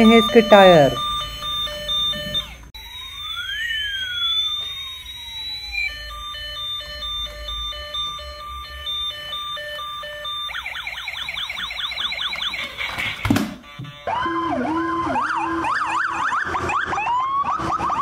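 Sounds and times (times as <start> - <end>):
toy siren: 0.0 - 18.0.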